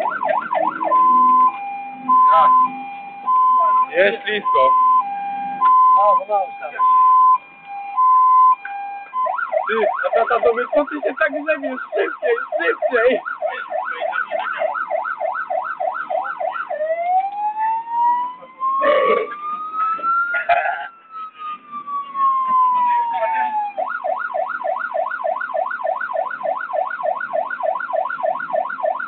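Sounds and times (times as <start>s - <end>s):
fire engine siren: 0.0s - 29.0s.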